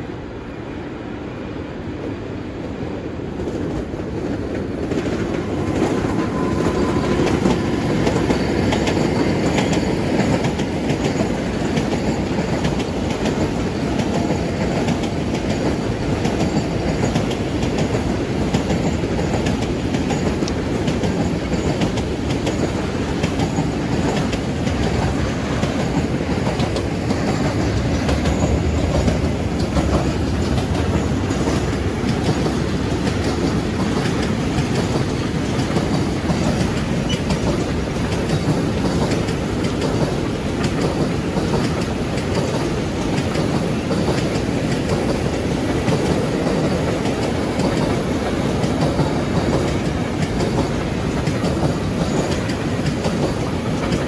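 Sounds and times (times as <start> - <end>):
electric locomotive passing: 0.0 - 54.0
freight train rumbling: 0.0 - 54.0
wheels clicking over rails: 4.2 - 54.0.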